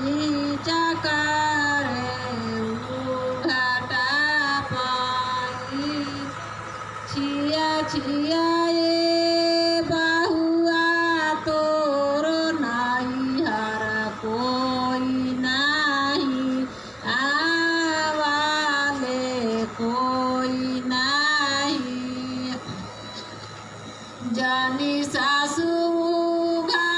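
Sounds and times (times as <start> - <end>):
woman singing ornamented melody: 0.0 - 23.4, 24.2 - 26.9
steady low hum: 0.0 - 26.9.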